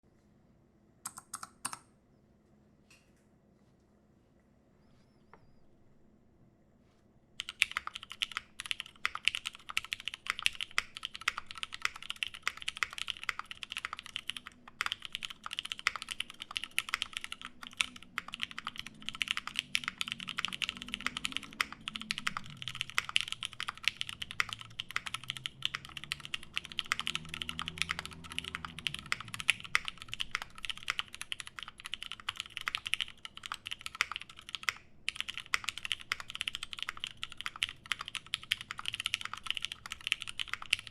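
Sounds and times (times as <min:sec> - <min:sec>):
mechanical keyboard typing: 0:01.0 - 0:01.9, 0:07.4 - 0:40.9.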